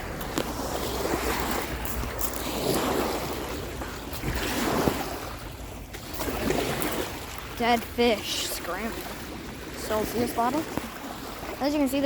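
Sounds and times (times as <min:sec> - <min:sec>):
waves washing against shore: 0:00.0 - 0:12.0
wind buffeting microphone: 0:00.0 - 0:12.0.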